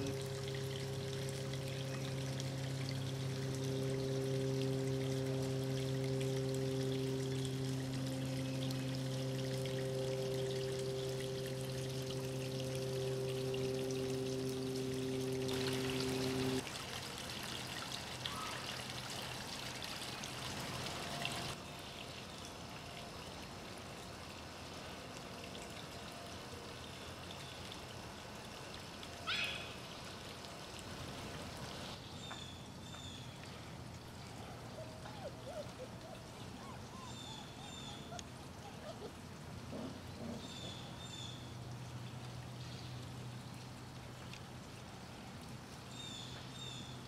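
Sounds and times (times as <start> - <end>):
outdoor background hiss: 0.0 - 47.0.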